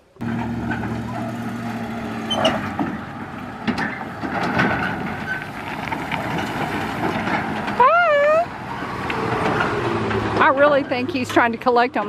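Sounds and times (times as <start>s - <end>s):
trailer knocks and rattles: 0.2s - 12.0s
truck engine running: 0.2s - 12.0s.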